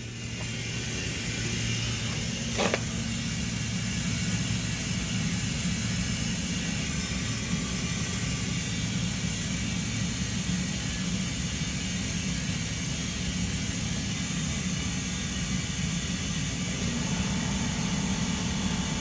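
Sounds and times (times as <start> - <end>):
air compressor humming: 0.0 - 11.8, 13.9 - 19.0.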